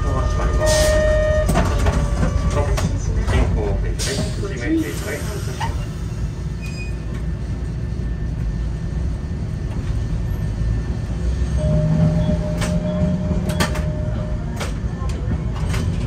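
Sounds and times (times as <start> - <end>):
streetcar rumbling on rails: 0.0 - 16.0.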